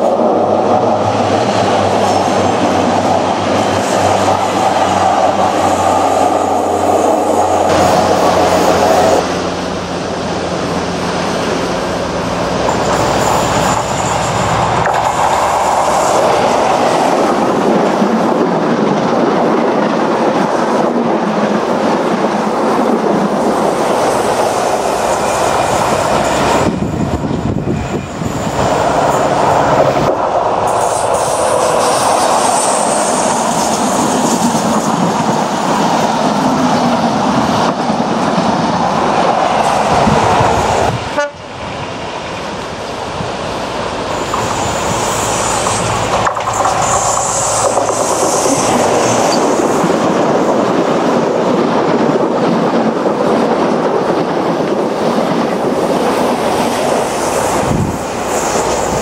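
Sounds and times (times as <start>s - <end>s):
diesel trains passing at speed: 0.0s - 59.0s.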